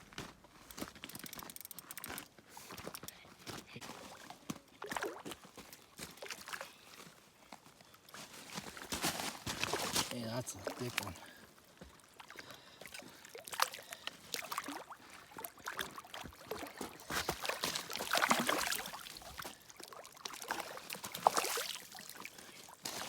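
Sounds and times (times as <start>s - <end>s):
water splashing and sloshing: 3.8s - 23.0s.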